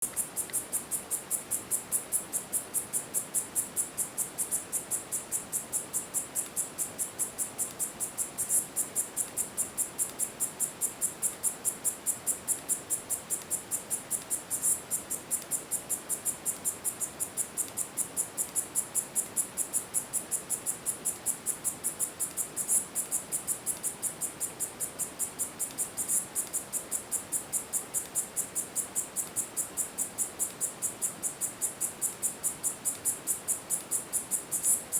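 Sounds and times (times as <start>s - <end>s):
cicada pulsed song: 0.1s - 34.9s.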